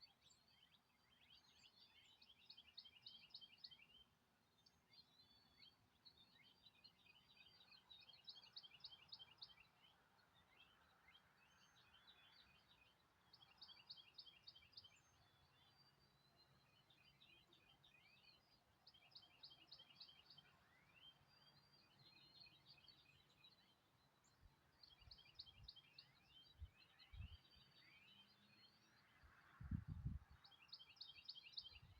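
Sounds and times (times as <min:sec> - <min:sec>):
soft bird chirps: 0:00.0 - 0:31.9.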